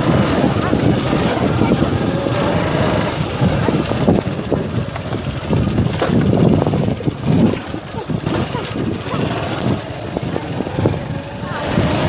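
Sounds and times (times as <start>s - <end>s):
motorcycle engine running: 0.0s - 12.0s
wind buffeting the microphone: 0.0s - 12.0s.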